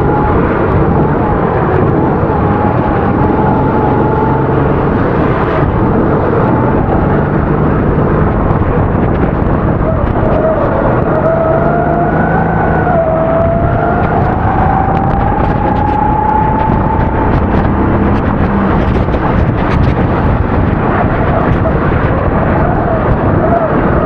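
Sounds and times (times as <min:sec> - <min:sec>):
kart engine running hard: 0:00.0 - 0:24.0
rushing noise: 0:00.0 - 0:24.0.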